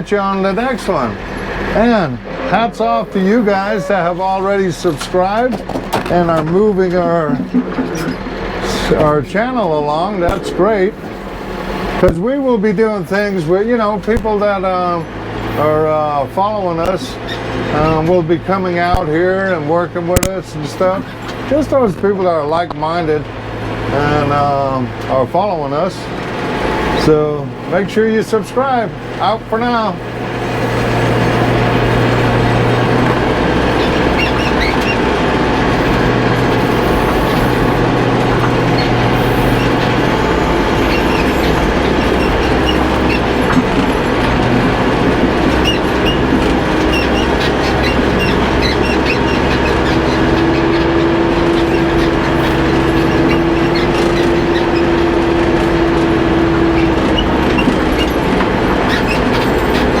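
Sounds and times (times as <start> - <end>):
backhoe engine running: 0.0 - 60.0.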